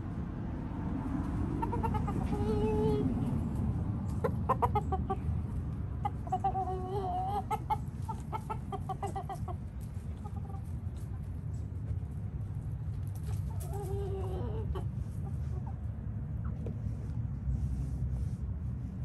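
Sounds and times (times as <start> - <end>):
chickens clucking: 1.1 - 17.2.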